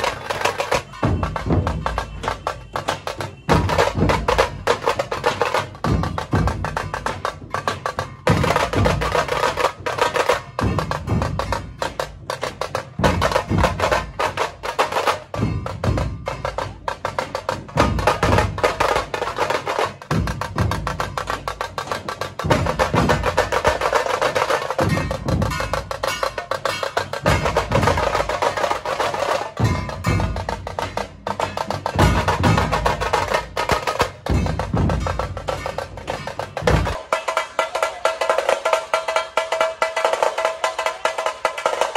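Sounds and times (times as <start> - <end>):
deep booming drum beats: 0.0 - 41.9
sharp drum strikes and rolls: 0.0 - 41.9.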